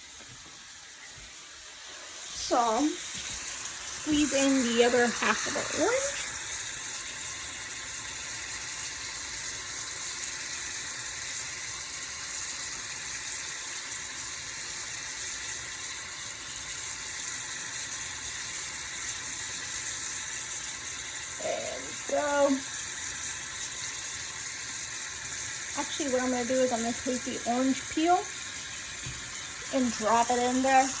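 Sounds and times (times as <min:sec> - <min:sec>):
fish sizzling in a pan: 0:00.0 - 0:31.0.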